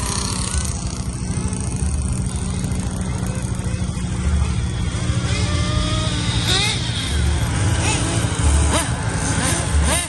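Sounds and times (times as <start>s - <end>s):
small nitro engines whining: 0.0s - 10.0s.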